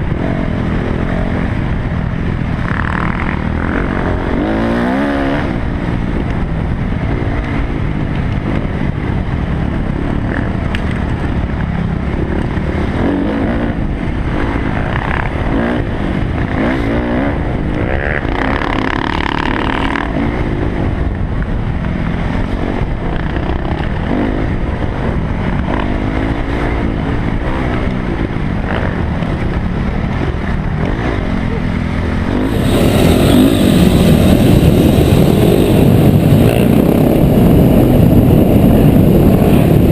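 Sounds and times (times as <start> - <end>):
dirt bike engine revving: 0.0 - 6.2, 12.0 - 20.9, 22.4 - 39.9.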